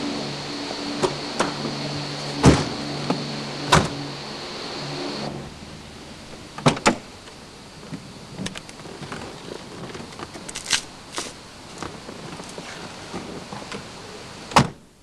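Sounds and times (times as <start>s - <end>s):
motor humming with high whine: 0.0s - 15.0s.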